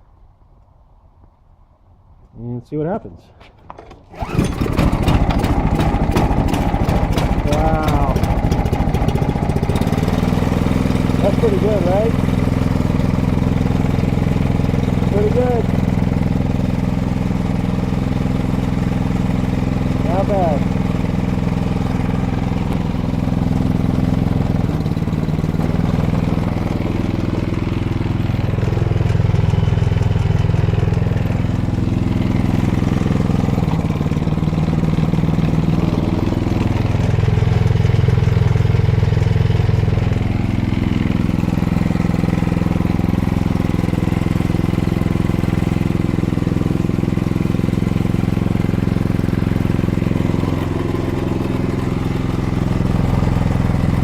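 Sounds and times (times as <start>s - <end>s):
snowblower engine running: 4.0s - 54.0s.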